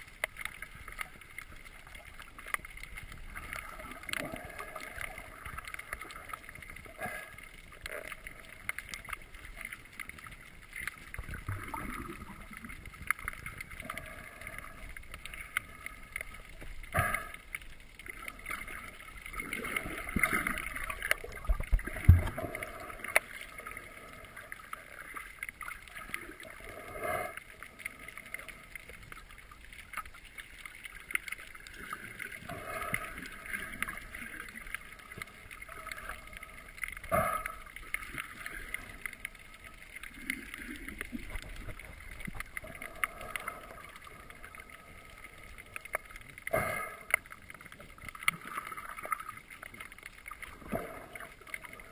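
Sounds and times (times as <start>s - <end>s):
muffled underwater movement: 0.0s - 51.9s
small clicks and crackles: 0.0s - 51.9s.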